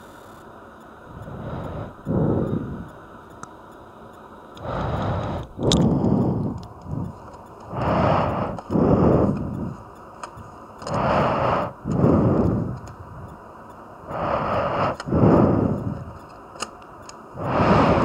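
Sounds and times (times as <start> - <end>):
person breathing heavily: 1.1 - 3.2, 4.6 - 16.5, 17.2 - 18.0.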